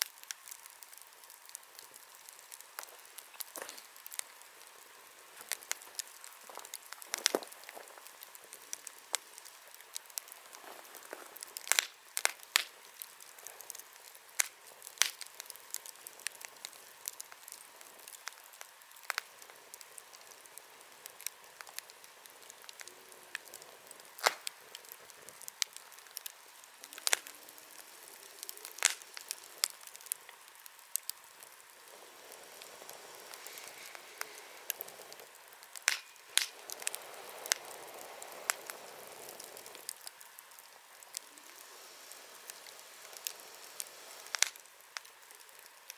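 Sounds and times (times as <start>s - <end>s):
campfire crackling and popping: 0.0s - 45.9s
faint steady hiss: 0.0s - 45.9s
soft rush of flame: 0.0s - 45.9s.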